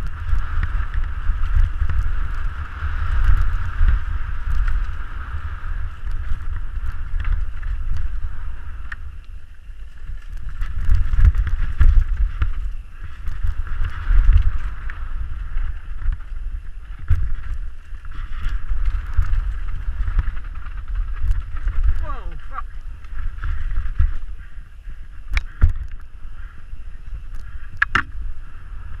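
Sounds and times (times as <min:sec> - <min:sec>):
bike rattling over stony dirt: 0:00.0 - 0:29.0
wind buffeting microphone: 0:00.0 - 0:29.0.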